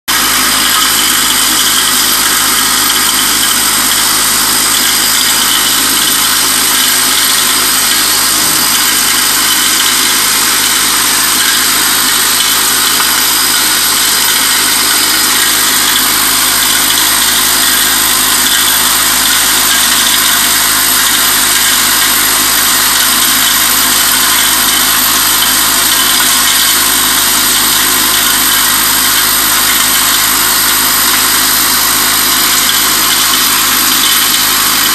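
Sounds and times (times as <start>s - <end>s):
vibratory feeder buzzing: 0.1s - 34.9s.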